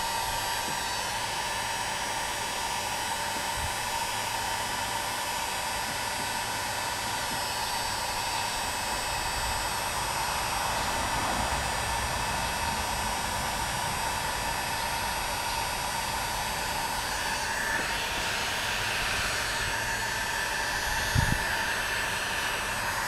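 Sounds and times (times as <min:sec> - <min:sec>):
heat gun running: 0:00.0 - 0:23.0.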